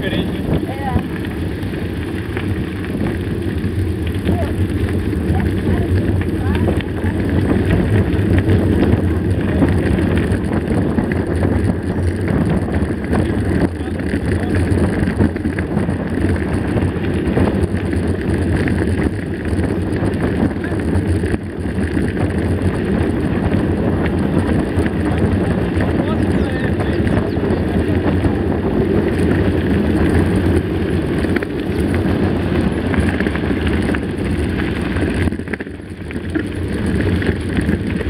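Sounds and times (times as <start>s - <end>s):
bike tyres crunching on gravel: 0.0s - 38.0s
wind buffeting microphone: 0.0s - 38.0s.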